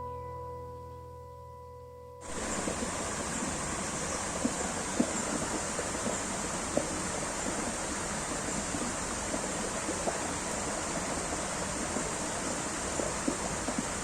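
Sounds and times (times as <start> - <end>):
stream water rushing: 2.2 - 14.0.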